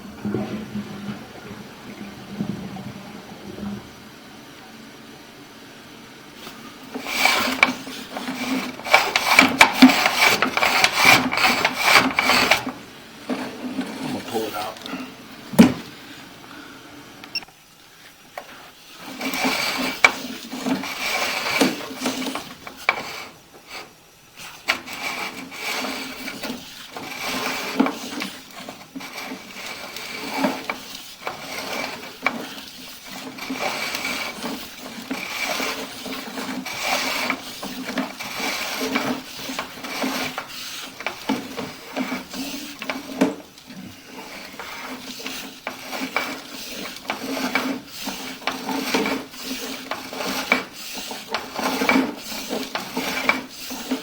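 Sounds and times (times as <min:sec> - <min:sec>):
camera cable scraping inside pipe: 0:06.4 - 0:14.9, 0:18.9 - 0:54.0.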